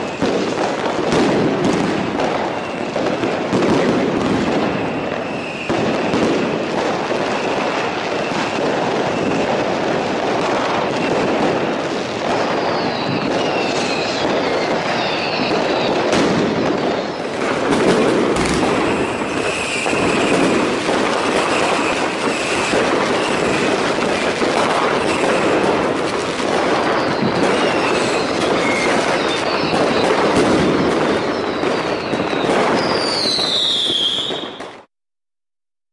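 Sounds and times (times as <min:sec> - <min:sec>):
fireworks crackling bangs: 0:00.0 - 0:34.9
whistling rockets: 0:00.0 - 0:34.9.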